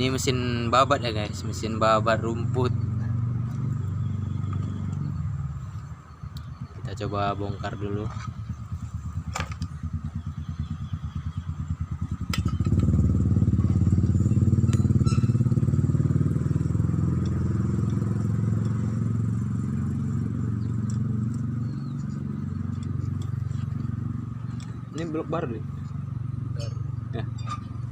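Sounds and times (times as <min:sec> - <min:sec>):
small engine idling: 0:00.0 - 0:27.9.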